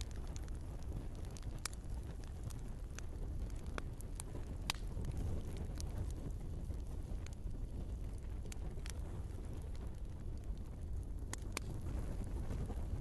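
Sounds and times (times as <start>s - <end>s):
wood fire burning: 0.0s - 13.0s.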